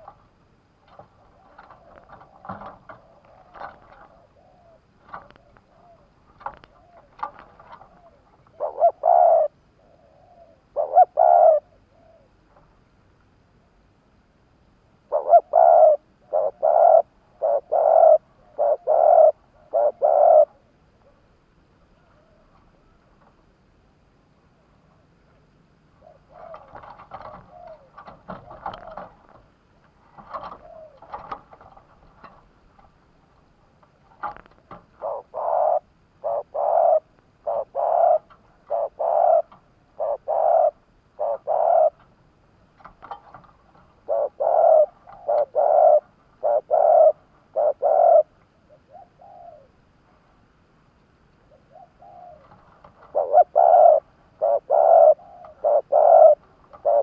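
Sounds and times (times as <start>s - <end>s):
dove cooing: 0.0s - 12.7s, 15.1s - 23.0s, 25.9s - 42.2s, 42.8s - 49.8s, 51.4s - 57.0s.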